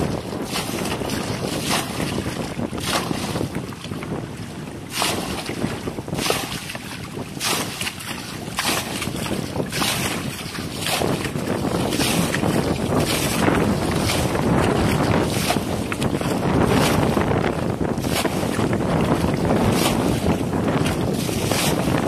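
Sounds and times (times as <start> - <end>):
bucket scooping and splashing water: 0.0 - 22.0
wind buffeting microphone: 0.0 - 22.0.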